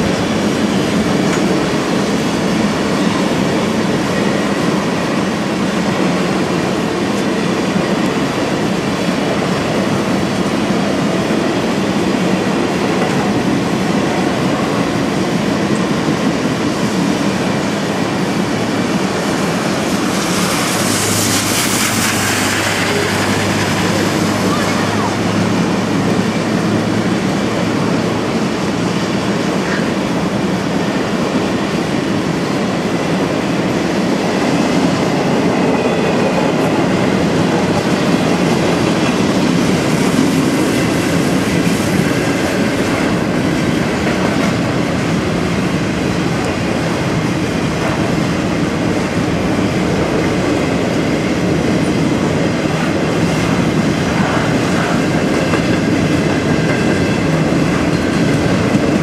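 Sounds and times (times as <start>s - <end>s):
train wheels rolling over rails: 0.0s - 59.0s.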